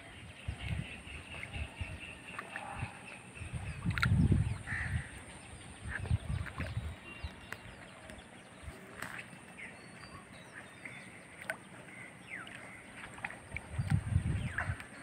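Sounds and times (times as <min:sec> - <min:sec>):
bird calls and chirps: 0:00.0 - 0:15.0.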